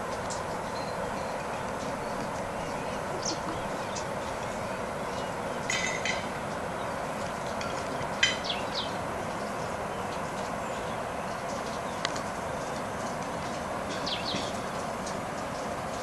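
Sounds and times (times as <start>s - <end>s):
steady rushing noise: 0.0s - 16.0s
birds calling: 0.6s - 15.4s.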